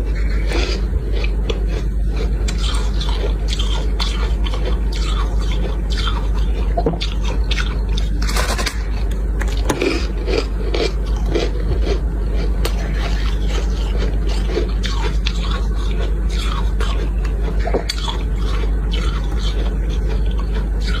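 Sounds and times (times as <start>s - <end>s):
frost scraping and crunching: 0.0s - 21.0s
steady low hum: 0.0s - 21.0s.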